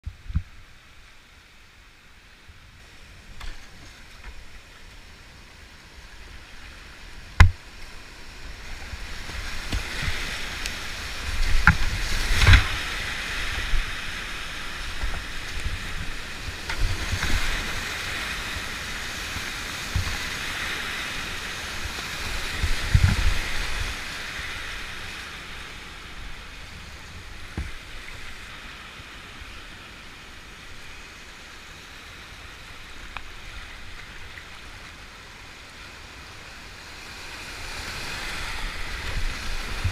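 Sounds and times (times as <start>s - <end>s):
rushing whitewater: 0.1s - 39.9s.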